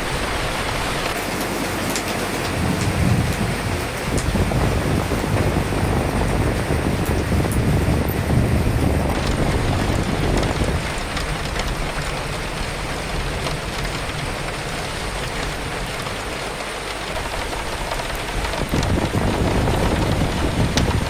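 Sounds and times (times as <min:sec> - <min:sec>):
low wind rumble: 0:00.0 - 0:21.0
steady rain: 0:00.0 - 0:21.0
raindrop ticks: 0:01.0 - 0:21.0.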